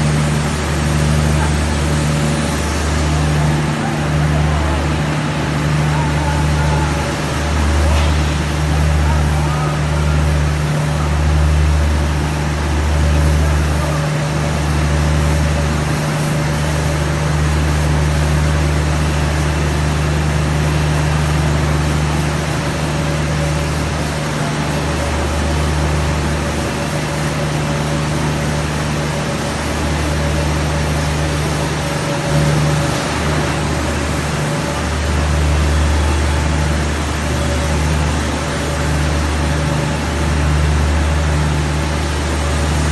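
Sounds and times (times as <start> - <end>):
machine whirring: 0.0 - 42.9.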